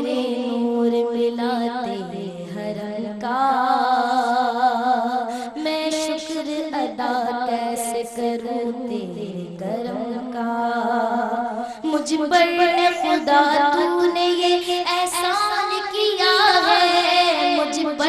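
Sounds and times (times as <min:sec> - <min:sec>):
woman singing devotional song: 0:00.0 - 0:18.0.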